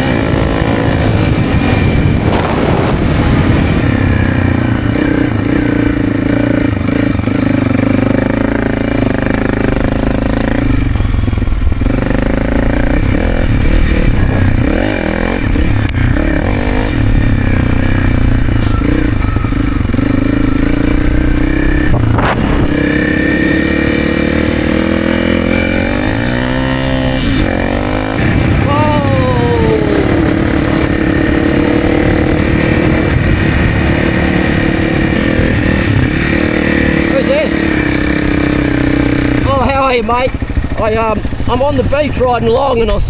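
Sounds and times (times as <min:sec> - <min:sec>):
motorbike engine running: 0:00.0 - 0:43.0.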